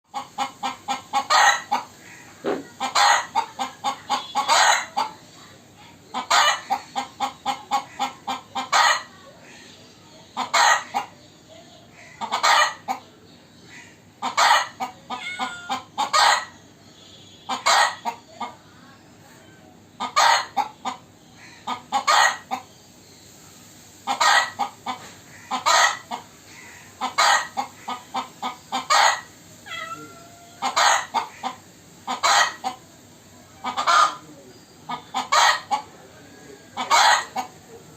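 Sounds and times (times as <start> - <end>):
chicken clucking: 0.1 - 16.8, 17.5 - 23.1, 24.0 - 37.9.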